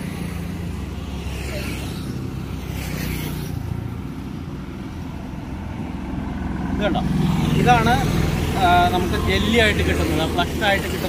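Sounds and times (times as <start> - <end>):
traffic engines droning: 0.0 - 11.0
vehicle rushing past: 0.0 - 11.0.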